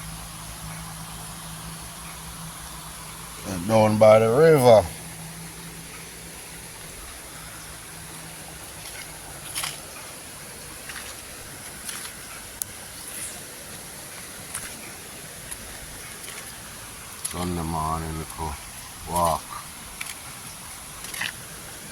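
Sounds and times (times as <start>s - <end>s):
river water flowing: 0.0s - 21.9s.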